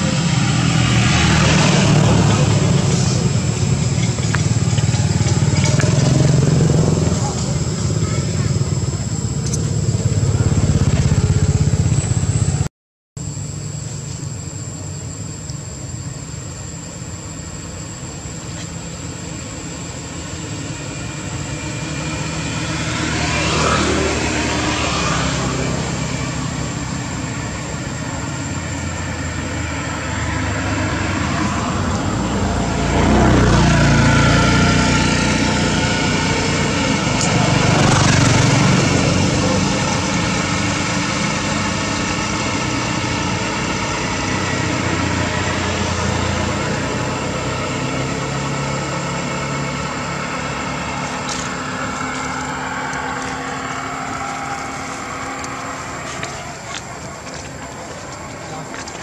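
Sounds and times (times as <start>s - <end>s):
high whine: 0.0s - 59.0s
passing motor vehicles hum: 0.0s - 59.0s.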